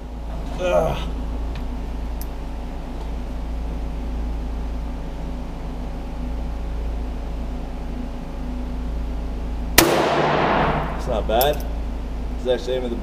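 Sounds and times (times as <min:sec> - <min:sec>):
ventilation drone: 0:00.0 - 0:13.0.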